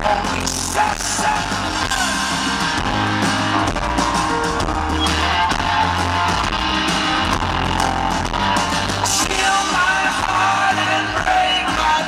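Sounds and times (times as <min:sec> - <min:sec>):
bass notes: 0:00.0 - 0:12.0
drum kit beat: 0:00.0 - 0:12.0
strummed guitar: 0:00.0 - 0:12.0.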